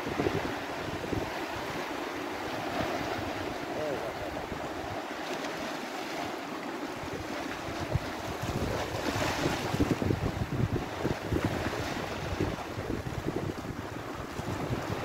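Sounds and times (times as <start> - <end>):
wind buffeting microphone: 0.0 - 5.0, 7.0 - 15.0
surf washing over rocks: 0.0 - 15.0.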